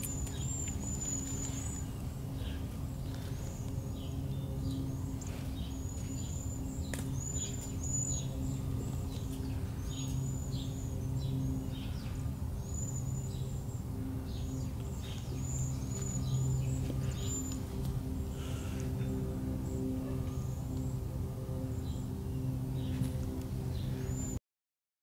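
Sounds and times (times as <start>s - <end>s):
songbirds chirping: 0.0s - 24.4s
steady low hum: 0.0s - 24.4s.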